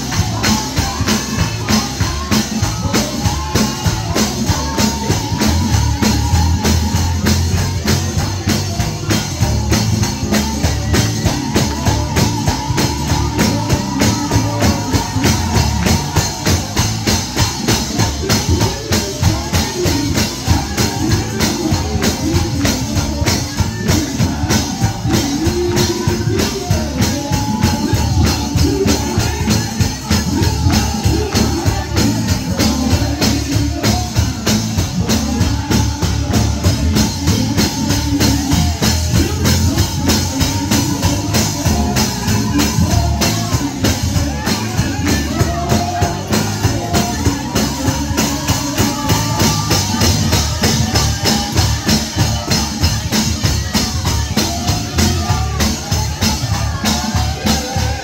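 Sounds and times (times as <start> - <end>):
drums beating: 0.0 - 58.0
person singing gospel: 0.0 - 58.0
tambourine: 0.0 - 58.0.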